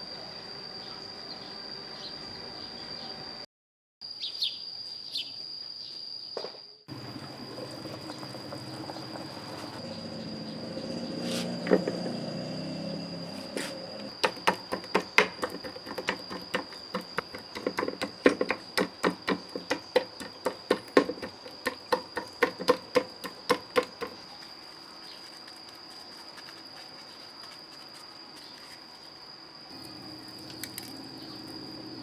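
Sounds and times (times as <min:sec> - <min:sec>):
insect trill: 0:00.0 - 0:32.0.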